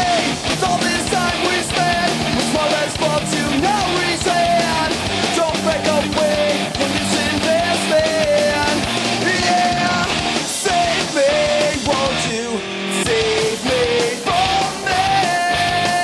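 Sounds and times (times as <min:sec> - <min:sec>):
bending melody line: 0:00.0 - 0:15.9
punk rock band playing: 0:00.0 - 0:16.0.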